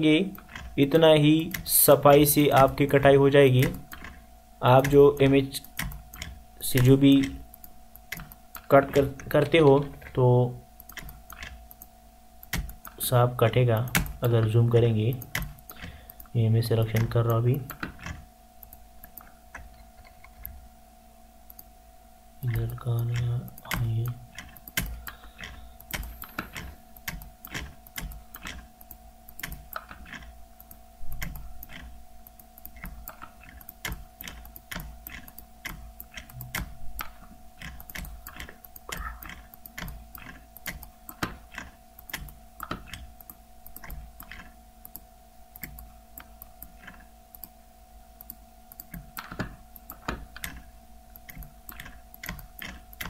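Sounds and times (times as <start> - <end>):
faint steady hum: 0.0 - 53.0
computer mouse clicking: 0.3 - 10.2, 10.8 - 20.6, 21.5 - 21.7, 22.4 - 47.6, 48.2 - 53.0.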